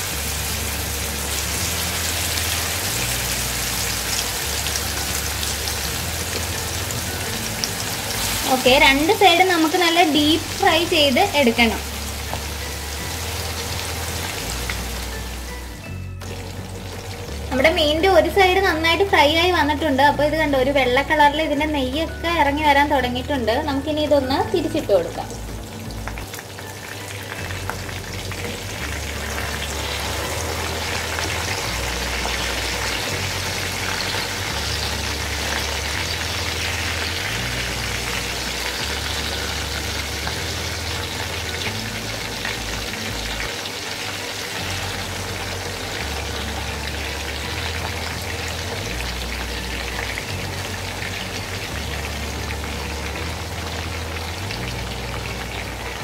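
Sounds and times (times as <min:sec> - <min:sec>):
fish frying in oil: 0:00.0 - 0:56.0.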